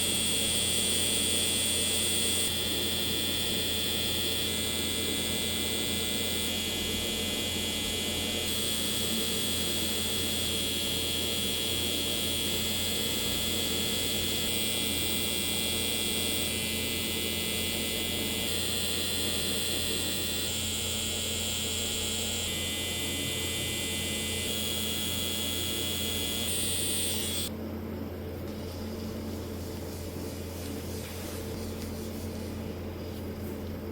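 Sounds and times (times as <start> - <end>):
tattoo machine buzzing: 0.0 - 27.5.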